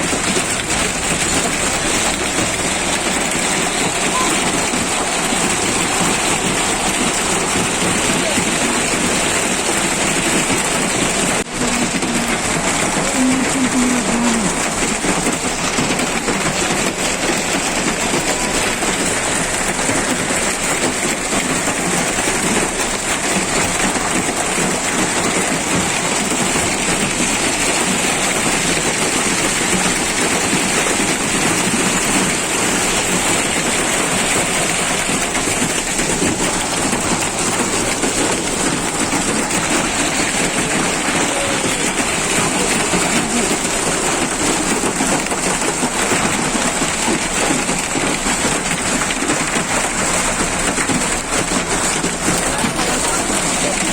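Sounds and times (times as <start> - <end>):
hail and rain pelting down: 0.0 - 53.9.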